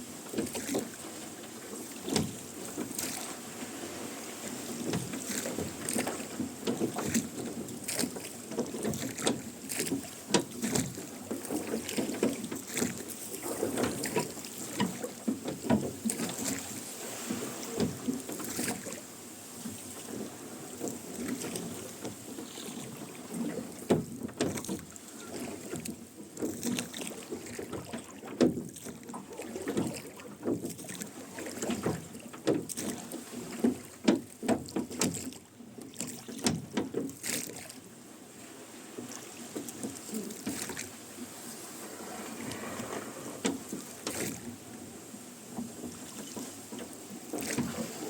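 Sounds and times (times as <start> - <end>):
oars dipping through water: 0.0 - 48.0.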